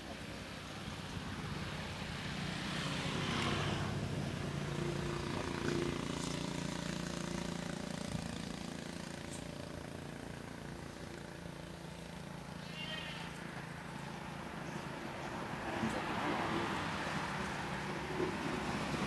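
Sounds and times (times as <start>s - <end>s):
vehicle engine droning past: 0.9s - 19.0s.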